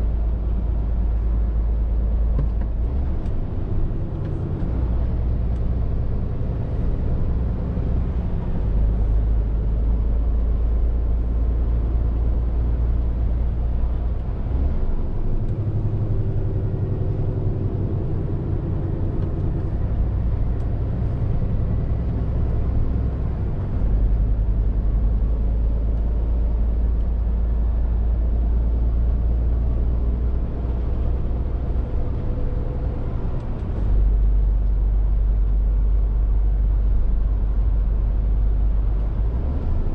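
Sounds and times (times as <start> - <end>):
diesel lorry engine drone: 0.0 - 39.9.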